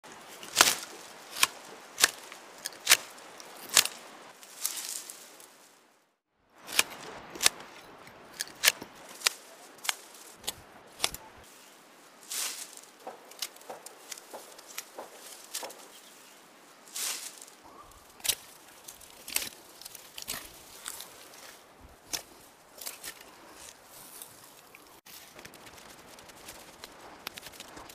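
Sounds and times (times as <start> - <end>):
dry stalks rustling: 0.0 - 27.9
sharp cracks of stalks being cut: 0.2 - 5.2, 6.6 - 11.4, 12.3 - 16.1, 17.0 - 24.3, 25.1 - 27.9.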